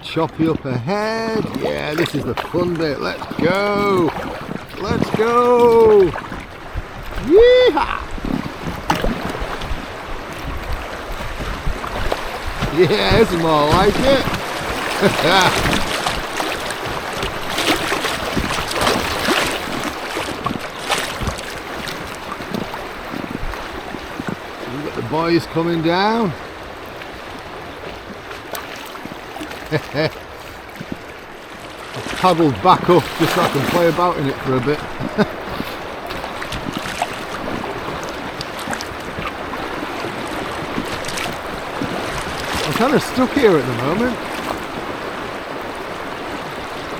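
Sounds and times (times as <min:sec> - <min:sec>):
water splashes: 0:00.0 - 0:46.9
white water rushing: 0:00.0 - 0:46.9.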